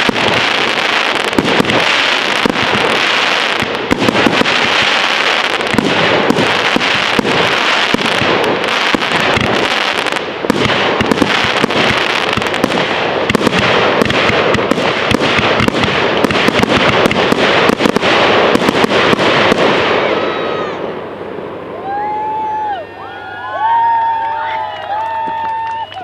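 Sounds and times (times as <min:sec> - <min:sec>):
fireworks bangs and crackles: 0:00.0 - 0:22.8.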